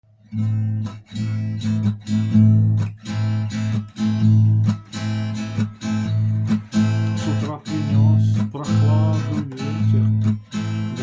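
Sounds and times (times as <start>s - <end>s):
acoustic guitar strumming: 0.2s - 11.0s.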